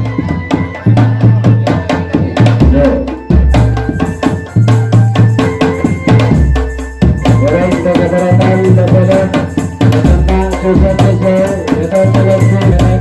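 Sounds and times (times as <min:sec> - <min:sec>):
bass drum and snare beats: 0:00.0 - 0:13.0
wavering melody line: 0:00.0 - 0:13.0.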